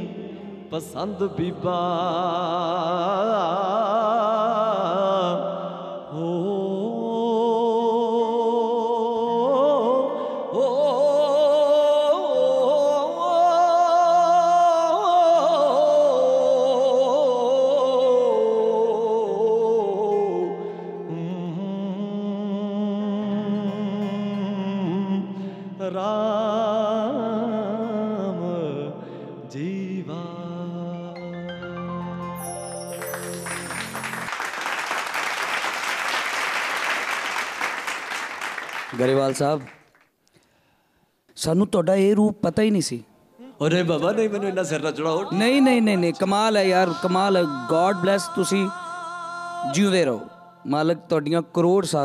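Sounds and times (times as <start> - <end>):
man singing wordless ornamented notes: 0.0 - 34.3, 43.3 - 52.0.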